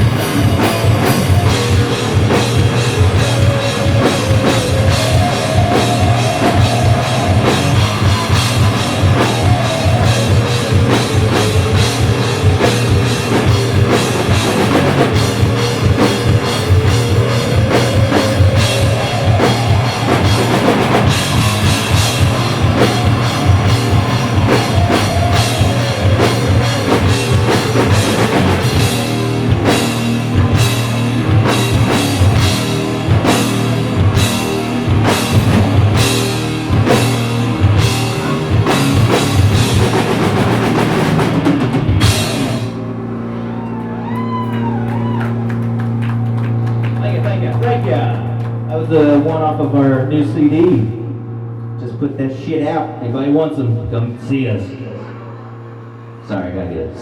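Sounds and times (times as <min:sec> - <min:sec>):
driving drum kit: 0:00.0 - 0:54.8
bass guitar: 0:00.0 - 0:57.0
distorted electric guitars: 0:00.0 - 0:57.0.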